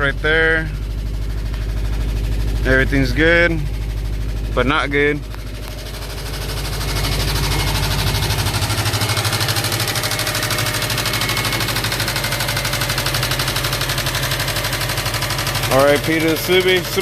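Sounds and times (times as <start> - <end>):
engine running with fast knocking: 0.0 - 17.0.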